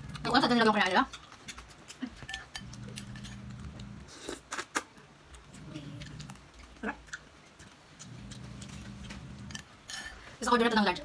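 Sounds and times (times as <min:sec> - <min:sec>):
person chewing noodles: 0:00.0 - 0:09.8.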